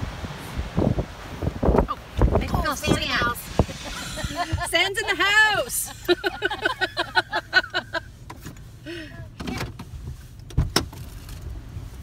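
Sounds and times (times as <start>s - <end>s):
wind buffeting car: 0.0s - 12.0s.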